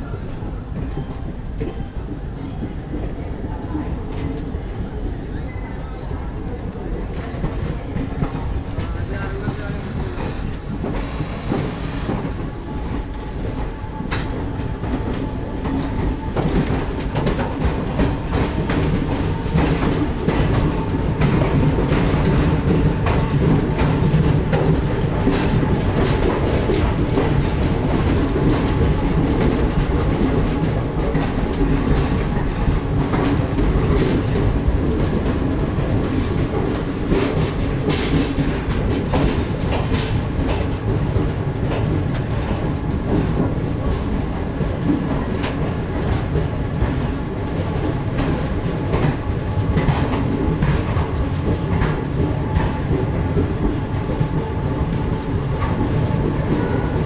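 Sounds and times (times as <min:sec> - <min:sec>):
train coaches rumbling past: 0:00.0 - 0:57.0.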